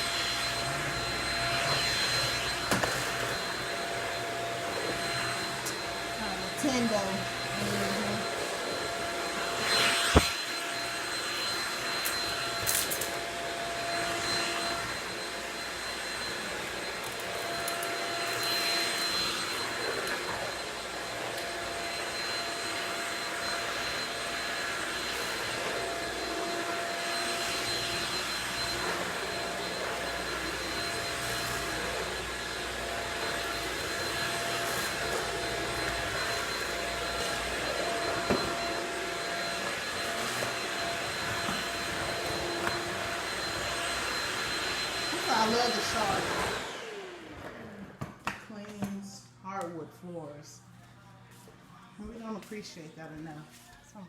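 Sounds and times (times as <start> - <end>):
stick vacuum running: 0.0 - 48.2.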